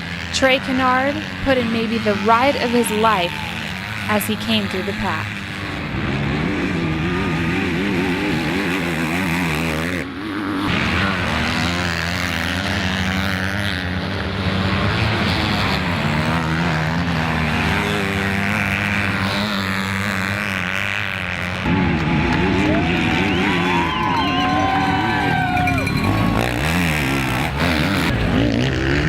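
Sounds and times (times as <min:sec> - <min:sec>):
motocross bike engines racing: 0:00.0 - 0:29.0.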